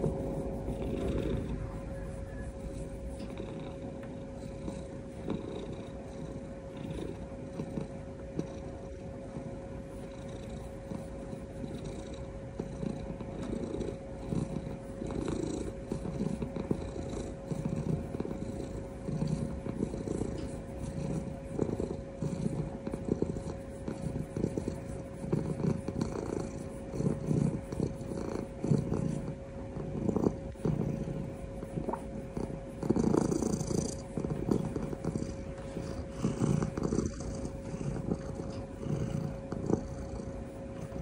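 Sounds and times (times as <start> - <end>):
cat purring: 0.0 - 41.0.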